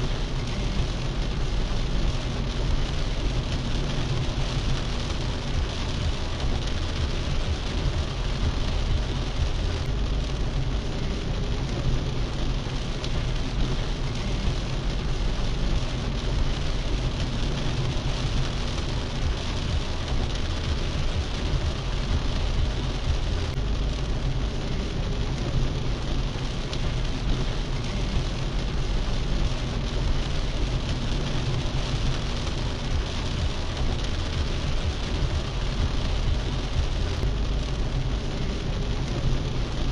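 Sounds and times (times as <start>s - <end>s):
car tyres rumbling on wet road: 0.0s - 39.9s
heavy rain on car roof: 0.0s - 39.9s.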